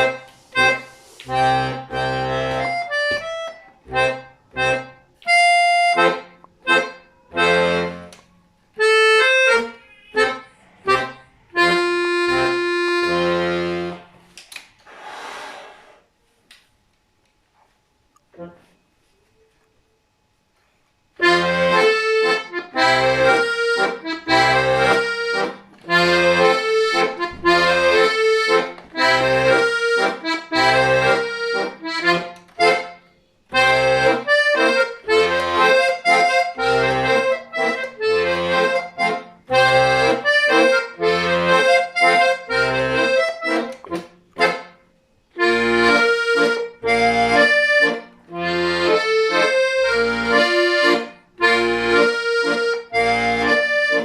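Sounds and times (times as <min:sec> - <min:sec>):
accordion playing a dance tune: 0:00.0 - 0:08.2, 0:08.8 - 0:14.2, 0:21.2 - 0:54.0.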